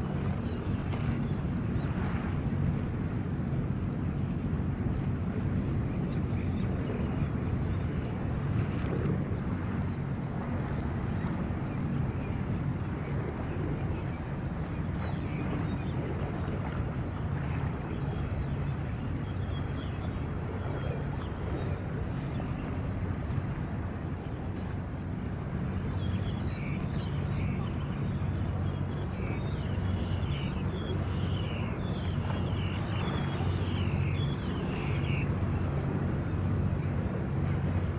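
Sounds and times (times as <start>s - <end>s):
boat engines droning: 0.0s - 37.9s
wind noise on microphone: 0.0s - 37.9s.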